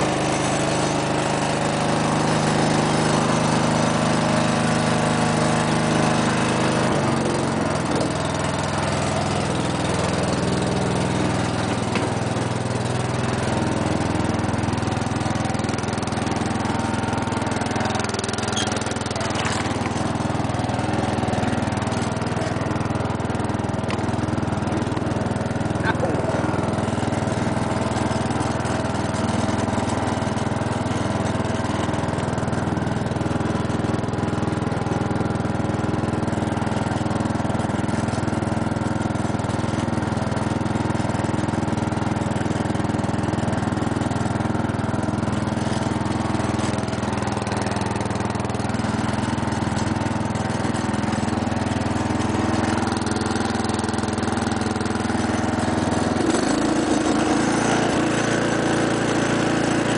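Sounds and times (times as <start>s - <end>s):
riding mower engine running: 0.0s - 59.9s.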